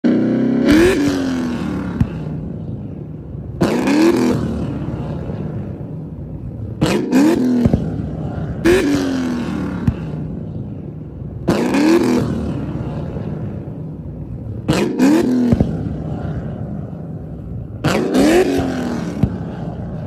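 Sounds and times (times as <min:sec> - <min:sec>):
car engine revving: 0:00.0 - 0:20.0
exhaust cracks: 0:00.6 - 0:10.7, 0:11.3 - 0:20.0.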